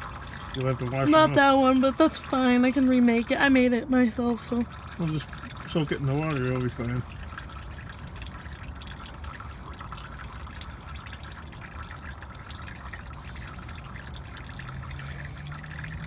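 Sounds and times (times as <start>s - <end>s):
oil dripping into a pan: 0.0s - 16.0s.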